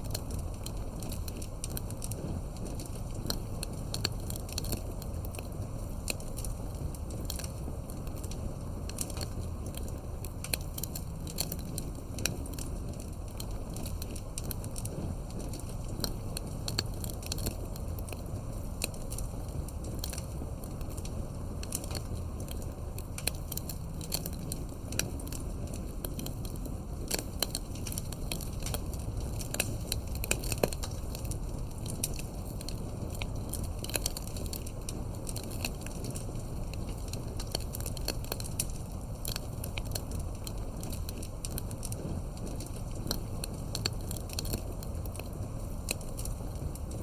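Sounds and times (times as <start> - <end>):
campfire crackling and popping: 0.0 - 47.0
low rumble of flames: 0.0 - 47.0.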